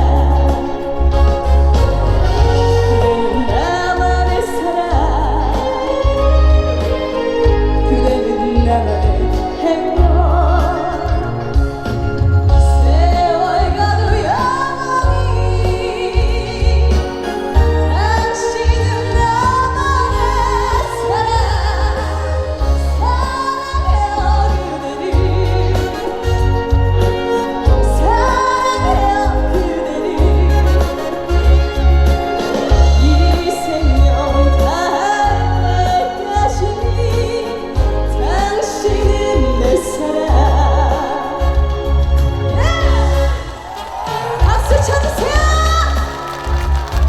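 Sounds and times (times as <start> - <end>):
backing music with heavy bass: 0.0 - 47.0
woman singing: 0.0 - 47.0.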